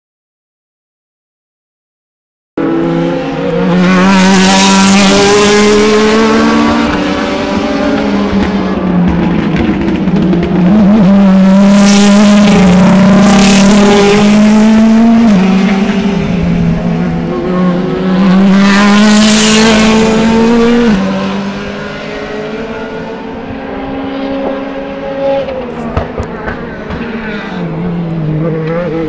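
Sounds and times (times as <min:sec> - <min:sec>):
racing car engines passing: 0:02.6 - 0:29.0.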